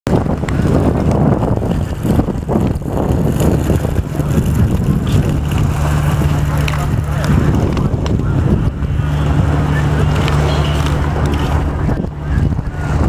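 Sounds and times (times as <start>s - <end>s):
wind buffeting microphone: 0.1s - 13.0s
steady low hum: 0.2s - 13.0s.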